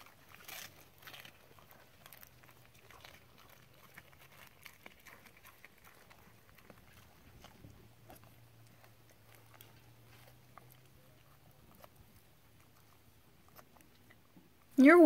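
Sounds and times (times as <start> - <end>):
dog chewing and crunching: 0.0 - 15.0.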